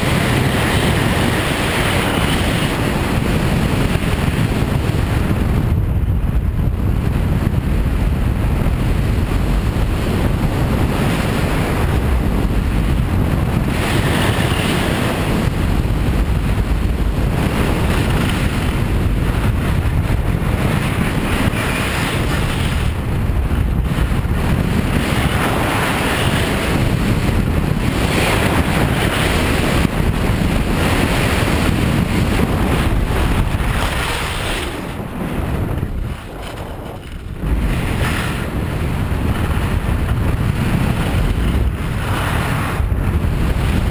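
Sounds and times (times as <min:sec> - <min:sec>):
skis carving on snow: 0:00.0 - 0:05.8, 0:06.9 - 0:43.9
wind buffeting microphone: 0:00.0 - 0:43.9.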